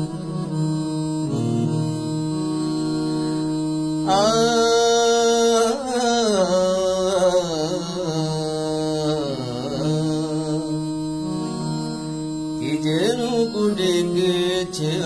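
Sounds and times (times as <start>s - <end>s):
man singing ornamented melody: 0.0s - 2.8s, 3.8s - 15.0s
keyboard drone: 0.0s - 15.0s.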